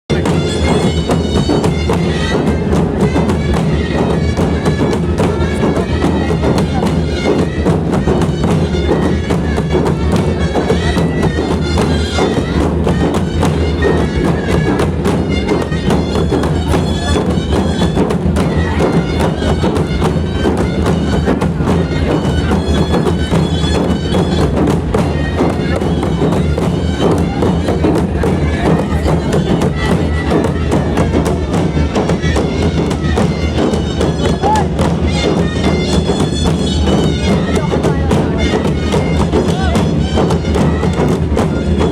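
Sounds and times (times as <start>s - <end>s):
drums beaten fast: 0.1s - 41.9s
wind instrument playing: 0.1s - 41.9s.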